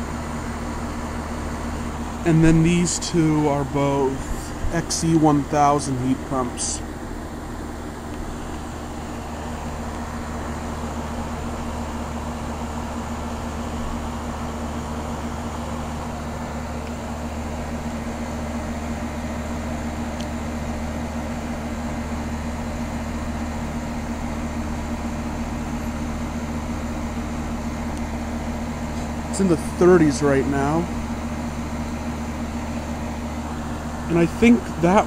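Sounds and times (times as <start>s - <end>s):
compressor hum: 0.0s - 35.0s
fan rushing: 0.0s - 35.0s.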